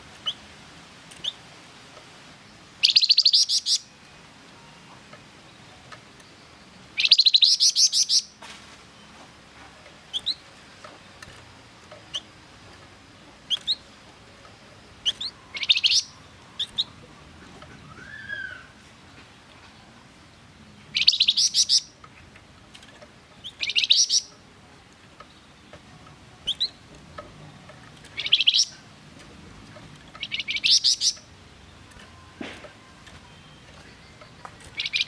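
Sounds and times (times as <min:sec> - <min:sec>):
songbird chirping and trilling: 0:02.3 - 0:35.0.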